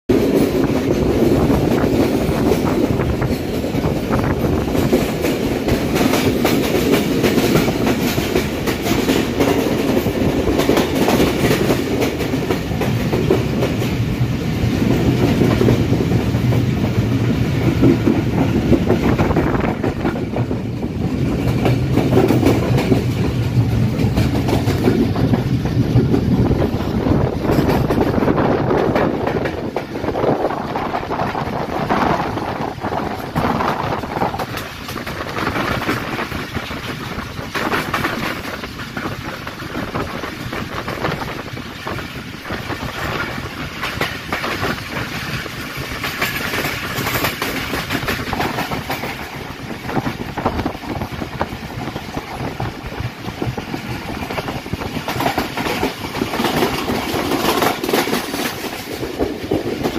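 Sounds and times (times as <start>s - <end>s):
train wheels rumbling on rail: 0.0s - 59.9s
wheels clicking over rail joints: 0.1s - 59.9s.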